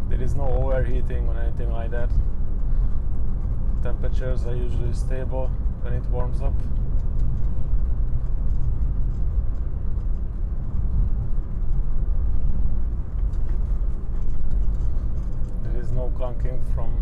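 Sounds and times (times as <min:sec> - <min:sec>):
car interior road drone: 0:00.0 - 0:17.0.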